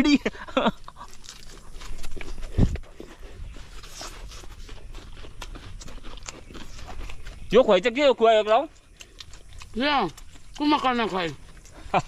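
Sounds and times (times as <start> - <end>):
salad being chewed crunching: 0.5 - 12.0.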